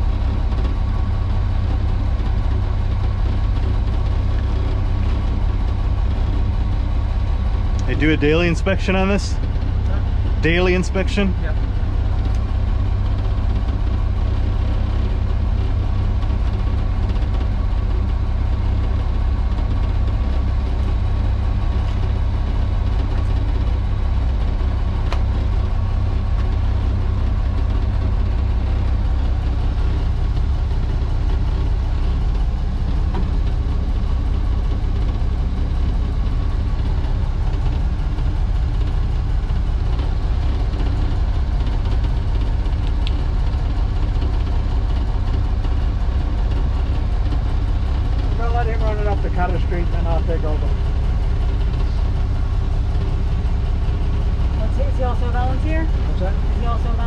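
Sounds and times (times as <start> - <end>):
diesel locomotive idling: 0.0 - 57.0.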